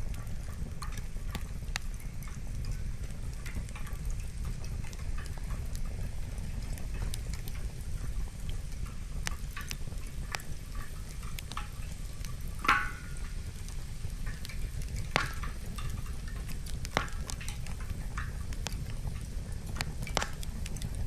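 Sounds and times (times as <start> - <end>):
steady low rumble: 0.0 - 21.0
wood fire crackling and popping: 0.0 - 21.0.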